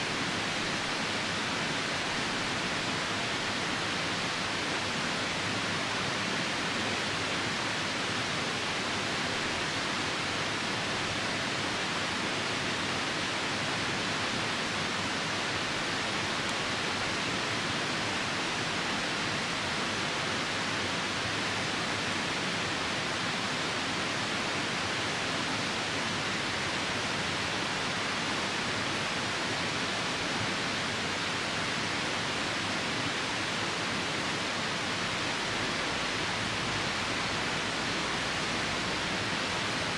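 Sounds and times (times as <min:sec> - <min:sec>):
rain: 0:00.0 - 0:39.9
river rushing: 0:00.0 - 0:39.9.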